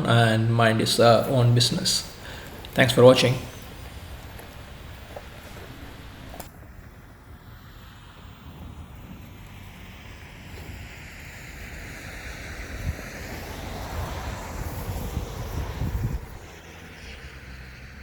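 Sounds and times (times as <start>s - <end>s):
wind gusting on microphone: 0.0s - 18.0s.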